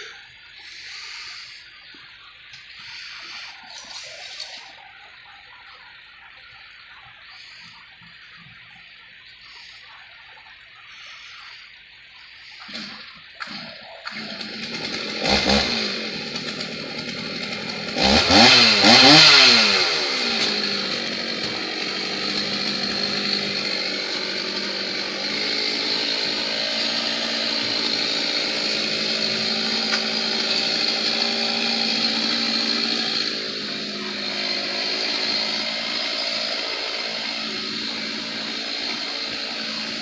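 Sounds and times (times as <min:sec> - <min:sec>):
chainsaw revving and idling: 0:00.0 - 0:04.8, 0:06.5 - 0:08.2, 0:09.4 - 0:09.8, 0:12.4 - 0:40.0.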